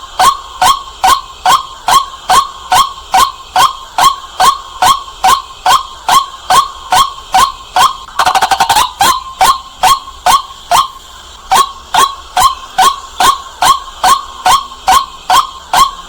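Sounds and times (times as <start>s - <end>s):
waterhen kwak calls: 0.2s - 16.0s.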